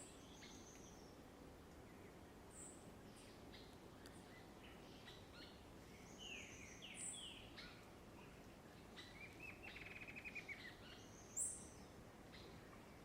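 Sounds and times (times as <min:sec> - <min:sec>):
background hiss: 0:00.0 - 0:13.0
wild birds singing: 0:00.0 - 0:13.0.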